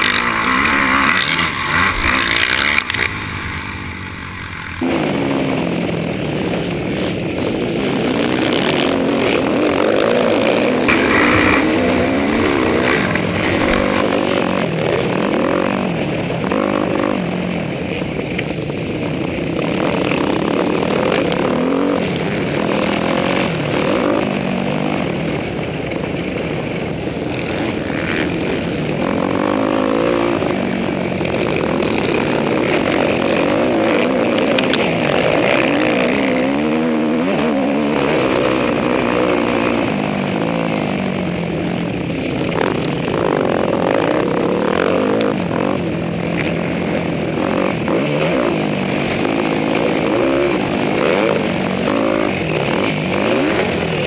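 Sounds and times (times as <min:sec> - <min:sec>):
dirt bike engine revving: 0:00.0 - 0:18.0, 0:19.4 - 0:26.3, 0:27.1 - 0:54.0.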